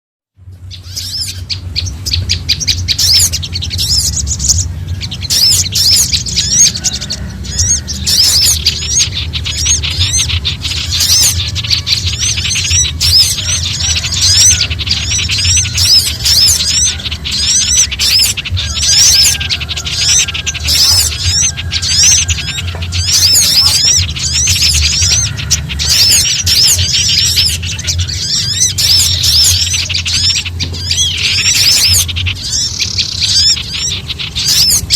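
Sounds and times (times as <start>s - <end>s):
songbirds chattering in alarm: 0.4s - 34.9s
steady low hum: 0.4s - 34.9s.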